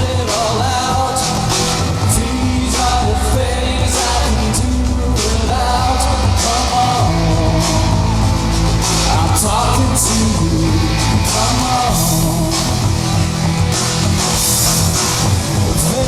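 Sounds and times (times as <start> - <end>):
live rock band playing: 0.0 - 16.0
person singing: 0.0 - 16.0.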